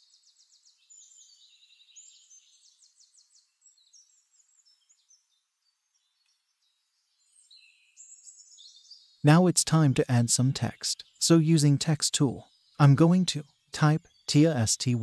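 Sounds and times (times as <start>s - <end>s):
faint birdsong trills and chirps: 0.0s - 15.0s.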